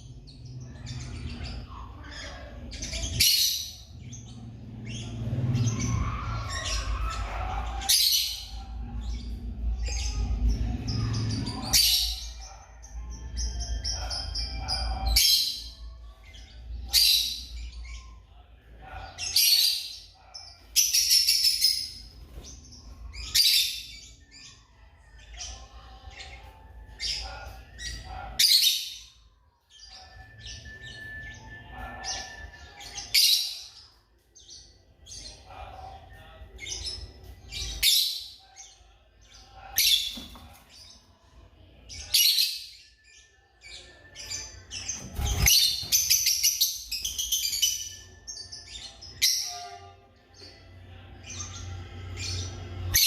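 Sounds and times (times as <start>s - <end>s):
lovebirds chirping: 0.0s - 53.0s.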